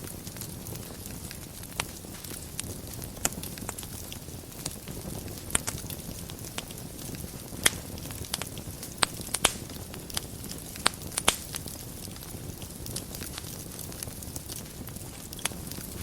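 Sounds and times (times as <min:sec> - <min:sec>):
low rumble of fire: 0:00.0 - 0:16.0
wood crackling and popping: 0:00.0 - 0:16.0.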